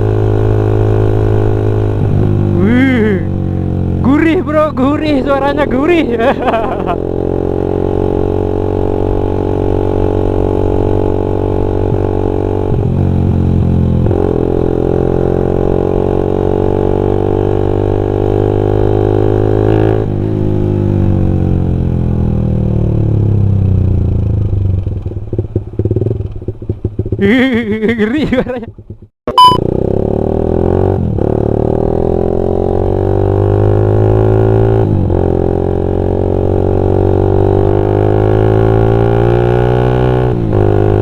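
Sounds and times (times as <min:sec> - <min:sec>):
motorcycle engine while riding: 0:00.0 - 0:41.0.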